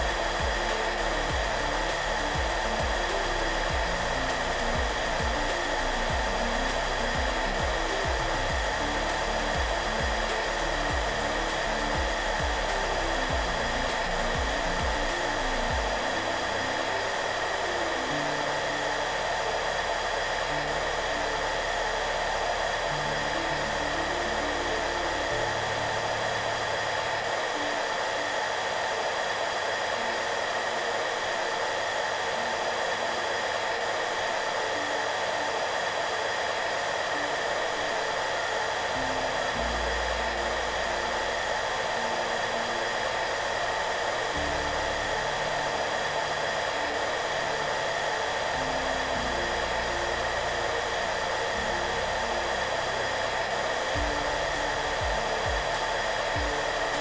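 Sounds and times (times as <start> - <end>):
hair dryer running: 0.0 - 57.0
soft background music: 0.0 - 57.0.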